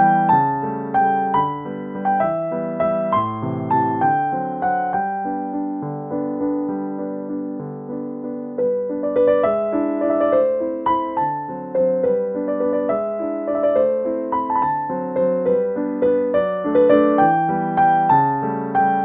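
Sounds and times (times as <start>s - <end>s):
piano melody: 0.0s - 19.0s.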